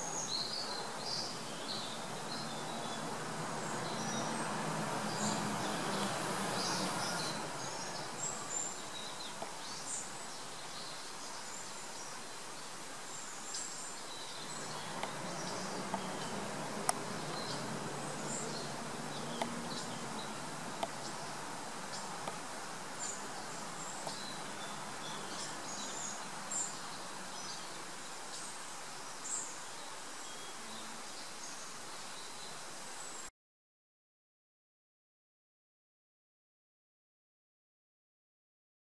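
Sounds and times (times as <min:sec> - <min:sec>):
steady outdoor hiss: 0:00.0 - 0:33.3.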